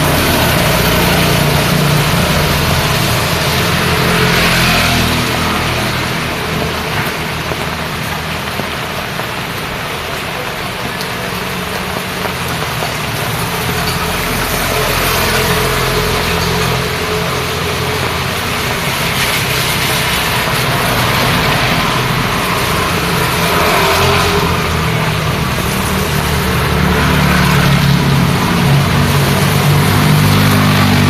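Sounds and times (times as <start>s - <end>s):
car and motorbike engines passing: 0.0s - 31.0s
rain on wet road: 0.0s - 31.0s.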